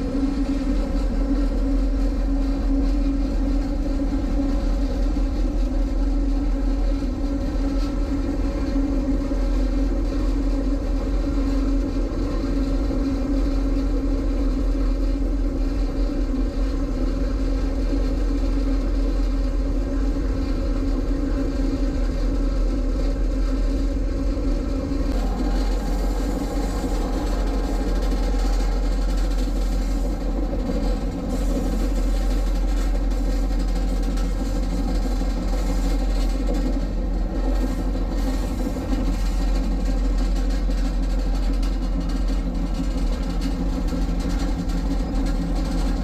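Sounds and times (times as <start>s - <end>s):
diesel locomotive engine drone: 0.0s - 46.0s.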